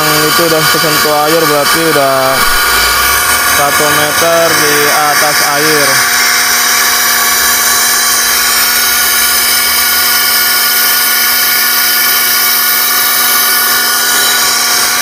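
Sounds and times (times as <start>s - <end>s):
compressed-air winch motor whining: 0.0s - 15.0s.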